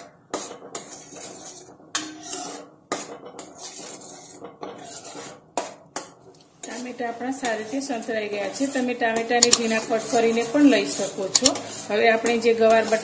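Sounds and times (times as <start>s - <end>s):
steel spoon scraping a pan: 0.0s - 13.0s.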